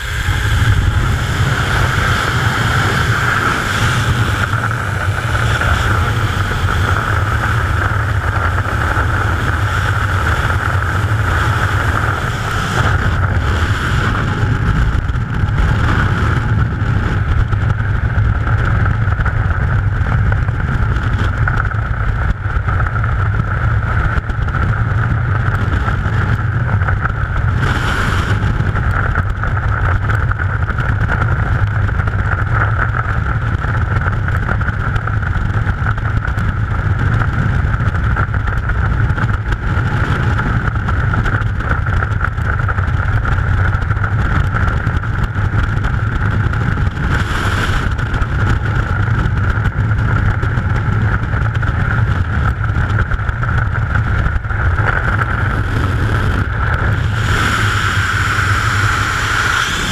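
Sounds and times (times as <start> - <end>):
wind blasting on microphone: 0.0 - 59.9.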